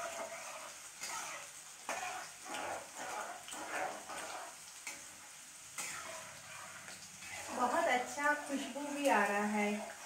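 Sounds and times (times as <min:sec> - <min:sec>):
metal spatula scraping pan: 0:00.0 - 0:05.2, 0:05.8 - 0:09.0
spices frying in hot oil: 0:00.0 - 0:10.0.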